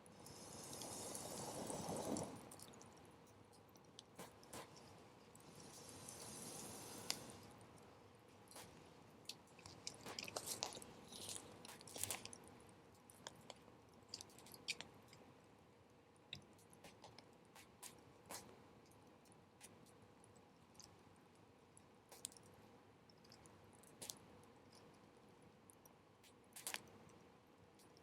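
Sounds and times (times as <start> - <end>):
soft hiss: 0.0 - 28.0.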